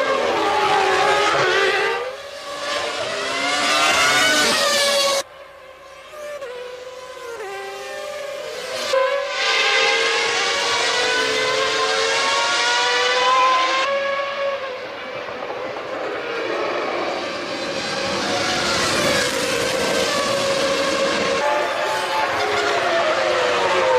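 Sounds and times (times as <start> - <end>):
racing car engines at high revs: 0.0 - 23.9.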